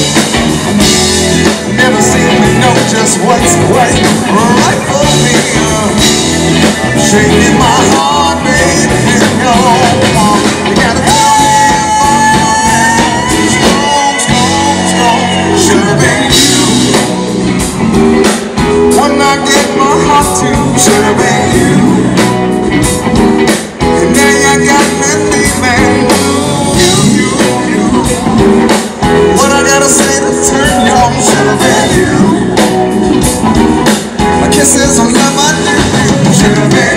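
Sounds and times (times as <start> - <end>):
lead singer: 0.0 - 36.9
live blues-rock band: 0.0 - 36.9.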